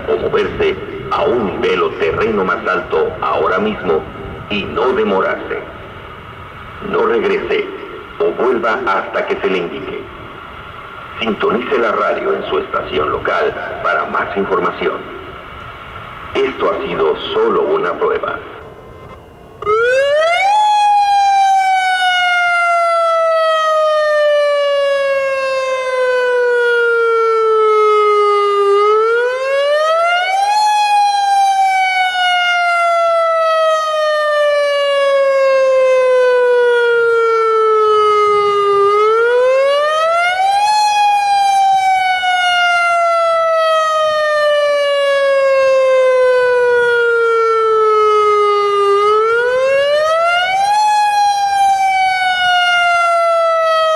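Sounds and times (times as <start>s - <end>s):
warning siren wailing: 0.0s - 53.9s.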